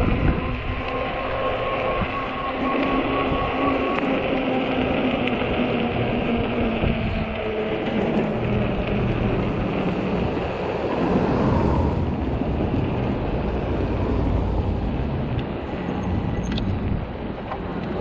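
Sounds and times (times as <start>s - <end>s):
bike tyres rolling on pavement: 0.0s - 18.0s
wind buffeting microphone: 0.0s - 18.0s.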